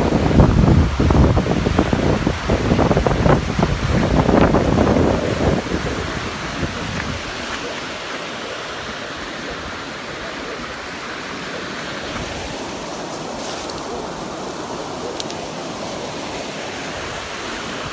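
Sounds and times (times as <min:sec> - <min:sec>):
floodwater rushing: 0:00.0 - 0:17.9.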